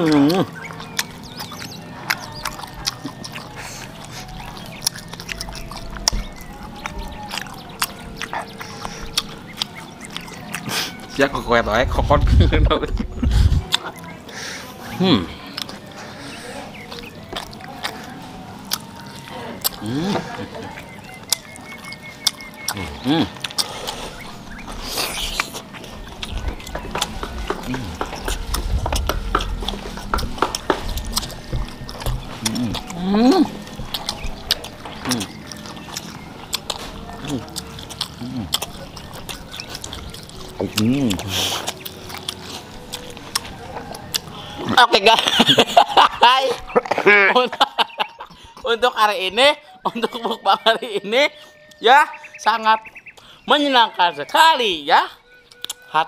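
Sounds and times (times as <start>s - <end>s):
wet chewing and lip smacks: 0.0s - 12.2s, 12.8s - 56.0s.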